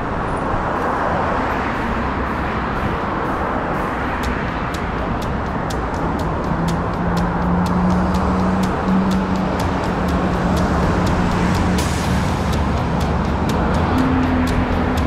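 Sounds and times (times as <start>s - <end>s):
traffic rushing past: 0.0s - 15.0s
low engine hum: 2.0s - 15.0s.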